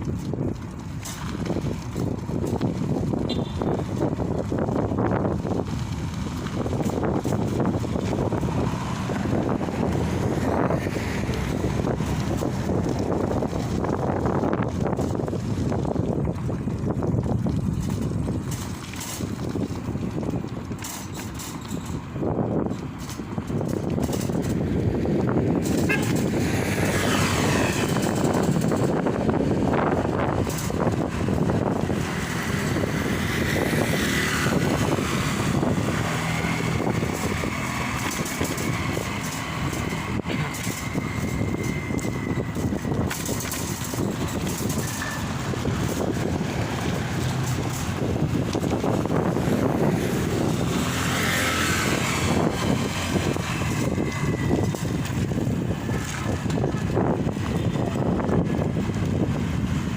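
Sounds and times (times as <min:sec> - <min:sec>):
vehicle engine and road noise: 0:00.0 - 0:59.9
wind buffeting microphone: 0:00.0 - 0:59.9.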